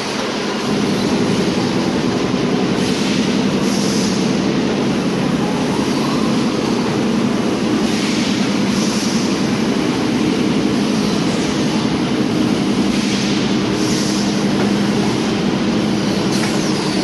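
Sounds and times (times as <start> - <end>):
bottling machine hum: 0.0 - 17.0.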